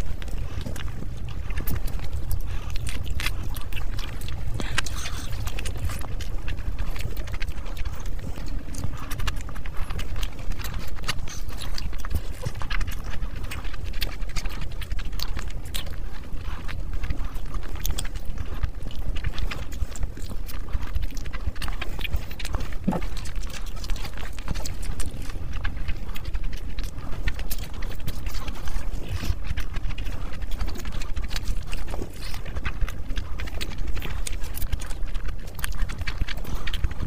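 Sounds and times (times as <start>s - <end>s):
person chewing food: 0.0s - 37.0s
wet lip smacks and clicks: 0.0s - 37.0s.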